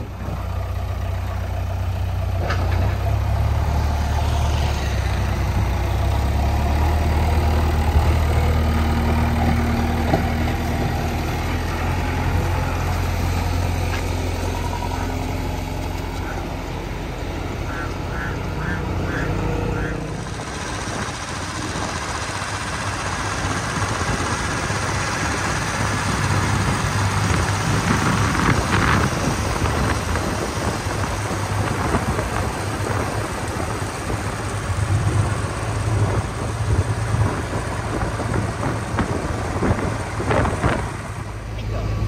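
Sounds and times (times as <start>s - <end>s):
diesel engine running: 0.0s - 42.0s
wind and tyre noise: 0.0s - 42.0s.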